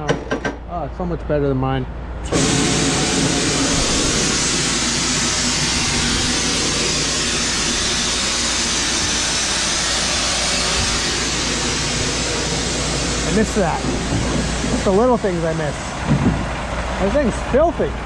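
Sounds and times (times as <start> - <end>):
truck engine rumble: 0.0 - 18.0
loud steady rushing noise: 2.2 - 18.0.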